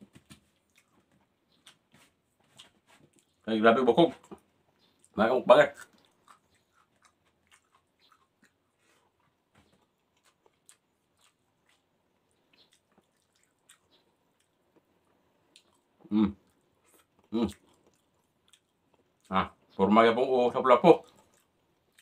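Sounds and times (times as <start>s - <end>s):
person chewing: 0.2s - 3.4s, 4.1s - 19.8s, 20.9s - 22.0s.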